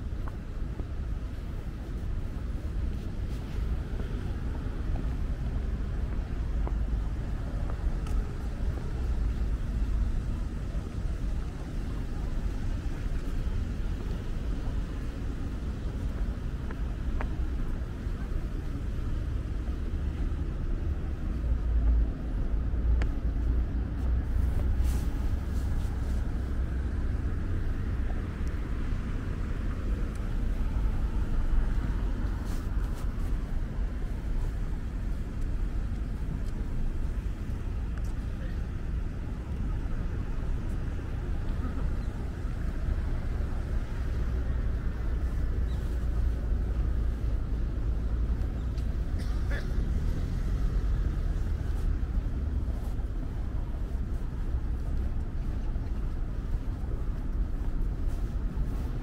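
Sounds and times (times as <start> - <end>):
low rumble of road traffic: 0.0 - 59.0.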